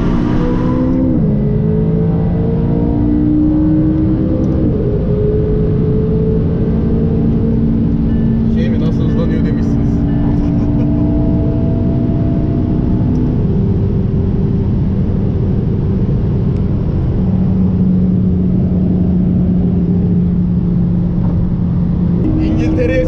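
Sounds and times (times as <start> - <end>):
car engine accelerating: 0.0 - 23.0
wind and road noise: 0.0 - 23.0.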